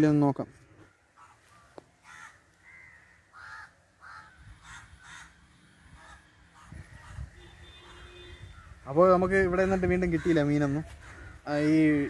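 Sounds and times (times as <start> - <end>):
crow cawing: 0.8 - 8.8, 9.5 - 12.0.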